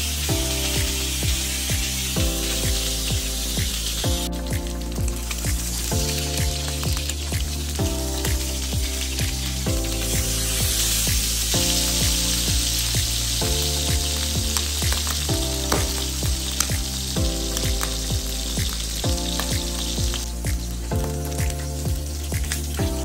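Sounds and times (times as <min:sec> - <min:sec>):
background music with steady beat: 0:00.0 - 0:23.0
fish sizzling in a frying pan: 0:00.0 - 0:23.0.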